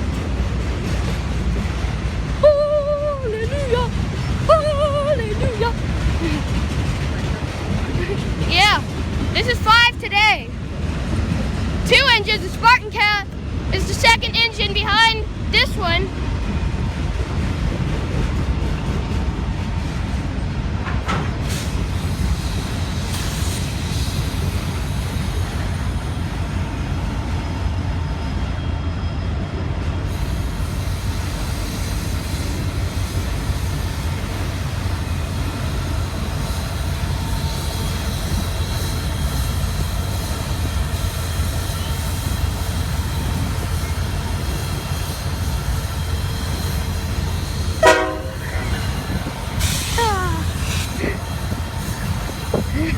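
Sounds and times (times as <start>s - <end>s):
freight train rumbling past: 0.0s - 52.9s.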